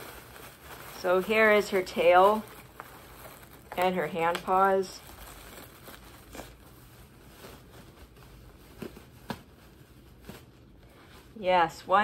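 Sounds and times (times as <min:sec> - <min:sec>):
plastic packaging rustling: 0:00.0 - 0:11.6.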